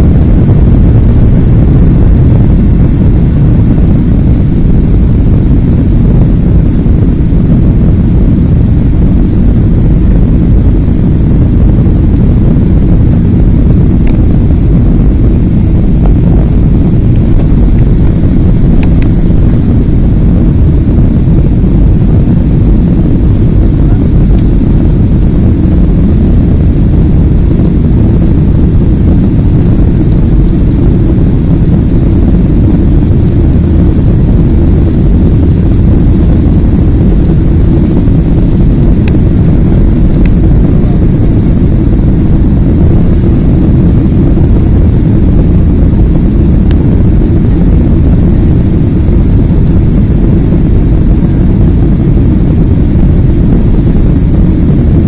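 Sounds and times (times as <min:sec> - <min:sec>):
airliner engines low rumble: 0:00.0 - 0:55.0
rushing air: 0:00.0 - 0:55.0.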